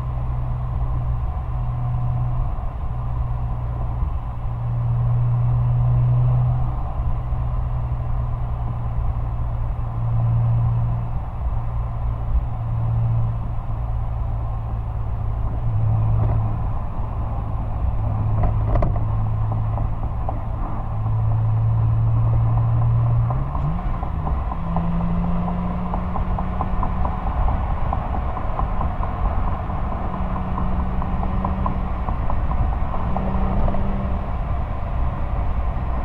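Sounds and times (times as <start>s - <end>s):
car exhaust revving: 0.0s - 36.0s.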